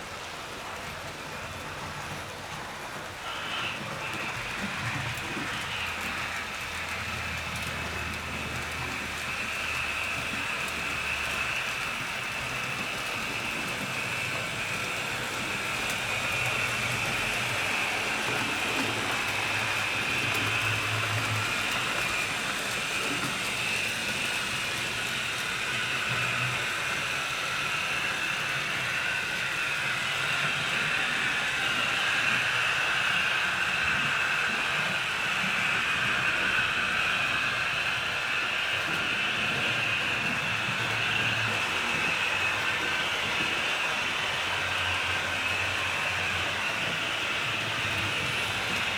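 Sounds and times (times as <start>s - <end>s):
model trains running on track: 0.0s - 48.9s.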